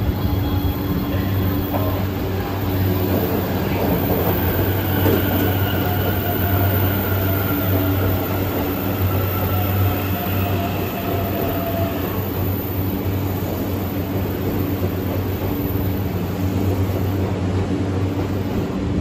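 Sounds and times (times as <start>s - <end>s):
electric train rolling past: 0.0s - 19.0s.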